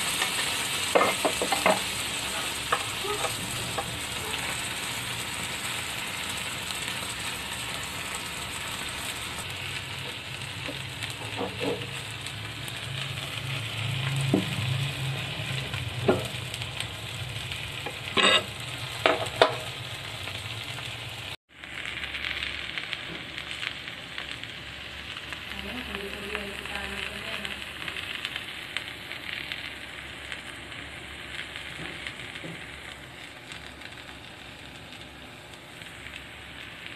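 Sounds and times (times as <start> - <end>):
food sizzling on hot plate: 0.0 - 36.9.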